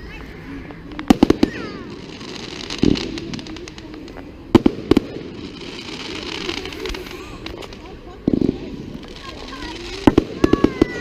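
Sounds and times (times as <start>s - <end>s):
fireworks crackling and fizzing: 0.0s - 11.0s
firework shells bursting: 0.8s - 11.0s.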